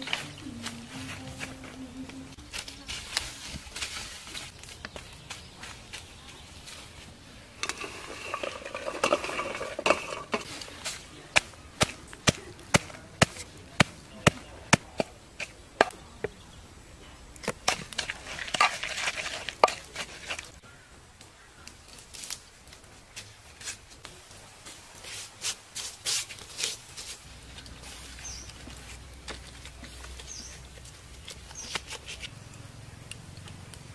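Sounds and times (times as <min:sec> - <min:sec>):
rustling: 0:00.0 - 0:14.4, 0:17.4 - 0:20.7, 0:21.8 - 0:32.4.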